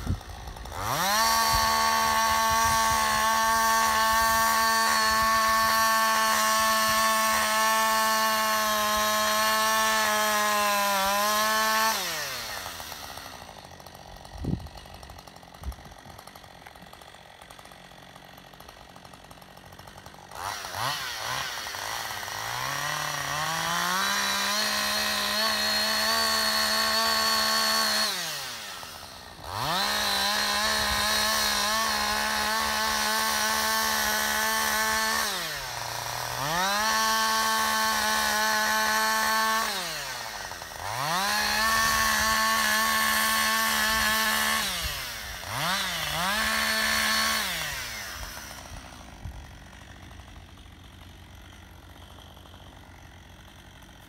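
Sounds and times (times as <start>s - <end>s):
chainsaw cutting at full throttle: 0.0s - 54.0s.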